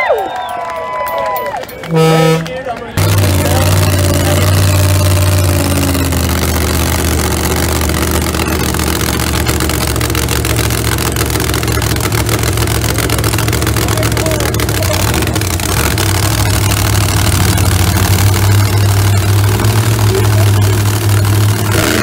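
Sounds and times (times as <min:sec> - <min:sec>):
truck engines droning: 0:00.0 - 0:22.0.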